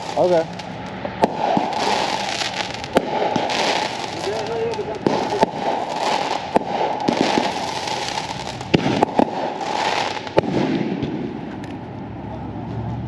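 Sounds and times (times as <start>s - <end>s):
fireworks crackling hiss: 0.0s - 11.8s
fireworks sharp bangs: 0.0s - 11.8s.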